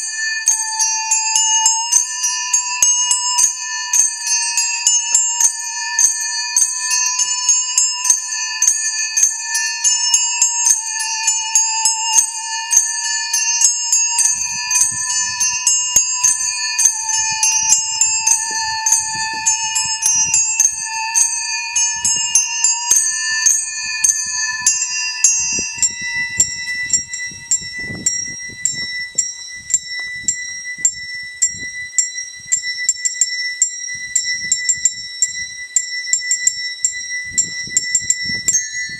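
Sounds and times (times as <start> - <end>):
handbells ringing: 0.0 - 38.9
musical saw wavering tone: 0.0 - 38.9.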